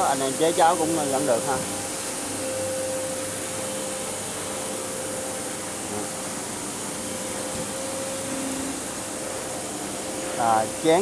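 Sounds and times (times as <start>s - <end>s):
constant tone: 0.0s - 11.0s
machinery hiss and hum: 0.0s - 11.0s.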